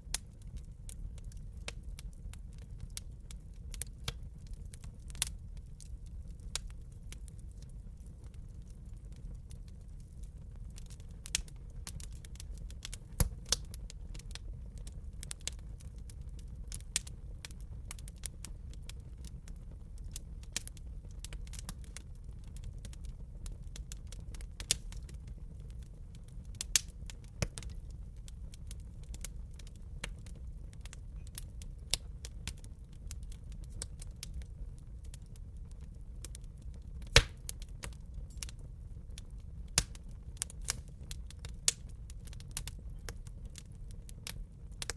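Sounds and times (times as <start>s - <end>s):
low fire rumble: 0.0s - 44.9s
wood fire crackling: 0.0s - 44.9s.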